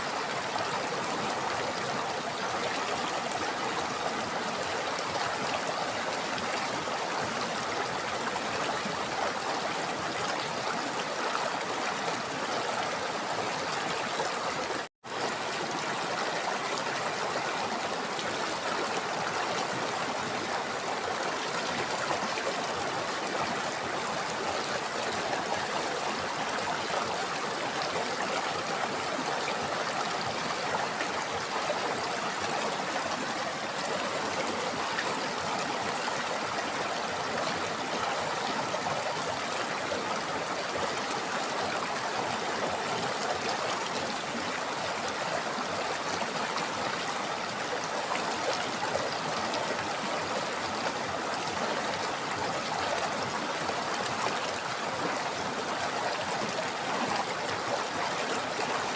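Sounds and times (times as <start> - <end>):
river water flowing: 0.0 - 58.9.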